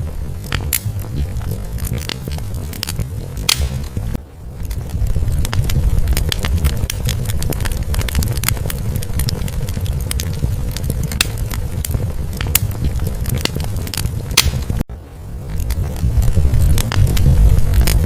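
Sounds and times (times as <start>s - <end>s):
low rumble of burning logs: 0.0s - 18.0s
sharp pops and snaps: 0.0s - 18.0s
wood fire crackling: 0.0s - 18.0s.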